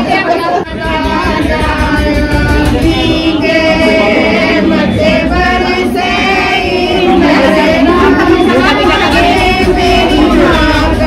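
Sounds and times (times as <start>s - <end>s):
women singing in chorus: 0.0s - 11.0s.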